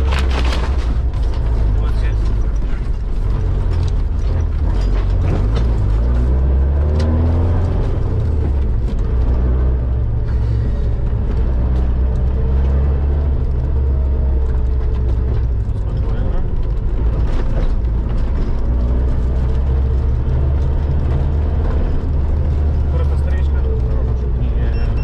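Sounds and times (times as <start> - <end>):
knocks and rattles: 0.0 - 25.0
vehicle engine droning under load: 0.0 - 25.0.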